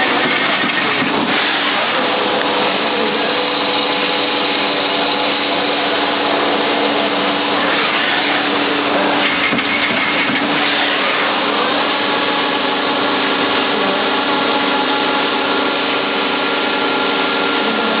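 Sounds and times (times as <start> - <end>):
lathe spindle hum: 0.0 - 18.0.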